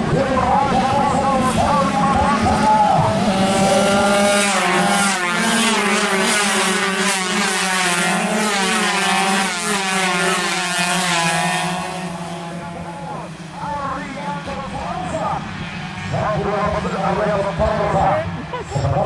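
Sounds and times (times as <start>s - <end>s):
racing motorcycles at high revs: 0.0s - 19.0s.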